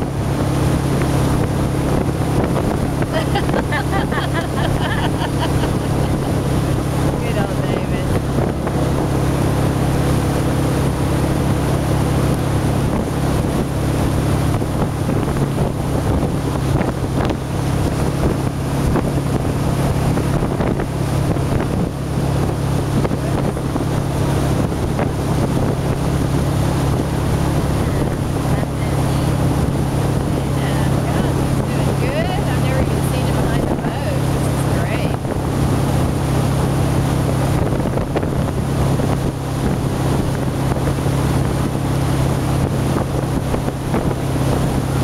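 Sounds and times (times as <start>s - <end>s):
boat wake rushing: 0.0s - 45.0s
motorboat engine drone: 0.0s - 45.0s
wind buffeting microphone: 0.0s - 45.0s.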